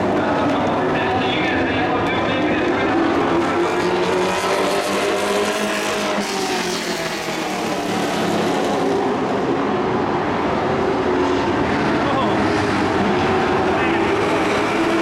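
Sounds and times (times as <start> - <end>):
race truck engines: 0.0 - 15.0.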